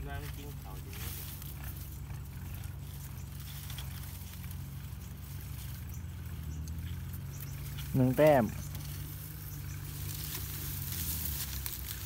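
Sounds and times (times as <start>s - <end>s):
dry grass rustling: 0.0s - 12.0s.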